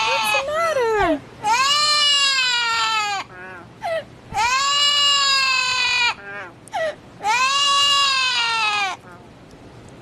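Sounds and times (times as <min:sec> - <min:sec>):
bird wailing calls: 0:00.0 - 0:00.7, 0:01.4 - 0:09.3.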